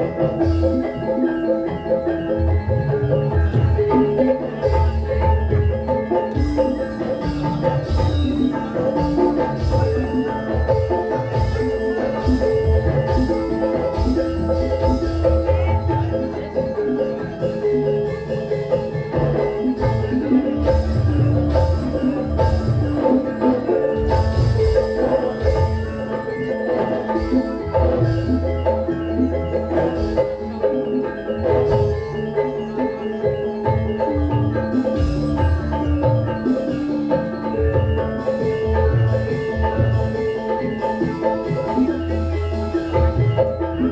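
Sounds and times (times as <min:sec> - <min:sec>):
deep drum beats: 0:00.0 - 0:30.6, 0:33.4 - 0:43.9
gamelan music over sound system: 0:00.0 - 0:43.9
metallophones ringing melody: 0:00.0 - 0:43.9.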